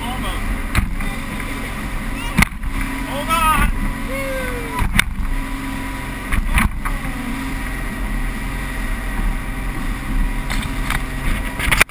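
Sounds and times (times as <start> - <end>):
boat engine running: 0.0 - 11.9
hull thumping and splashing: 0.4 - 11.9.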